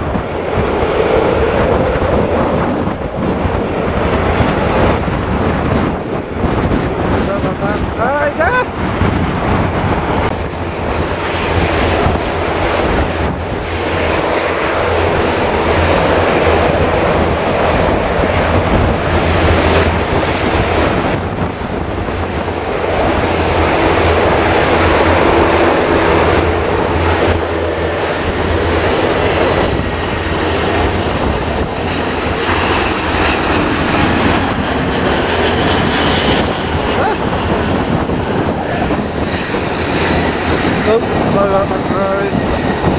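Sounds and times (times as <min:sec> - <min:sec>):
jet engine rushing noise: 0:00.0 - 0:42.9.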